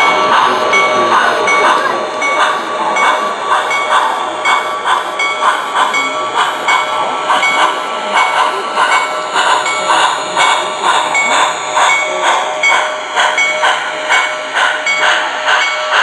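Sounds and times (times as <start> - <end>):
model train steam chuffs from speaker: 0.0 - 16.0.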